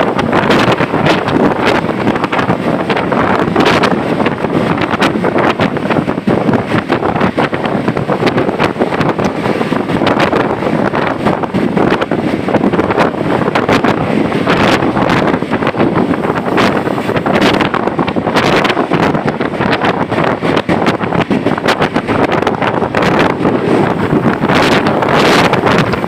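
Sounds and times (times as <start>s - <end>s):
moving vehicle noise: 0.0s - 26.0s
wind buffeting microphone: 0.0s - 26.0s
wind rushing: 0.0s - 26.0s.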